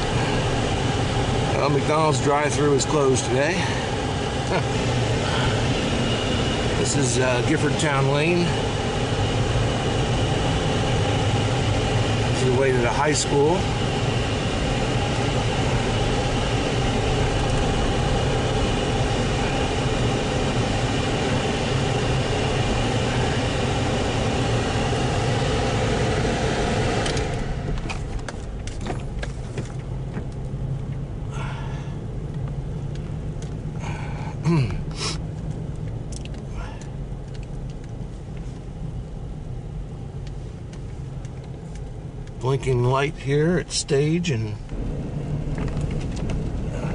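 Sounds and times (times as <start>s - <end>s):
car engine and tyre rumble: 0.0s - 46.9s
car heater blower fan: 0.0s - 46.9s.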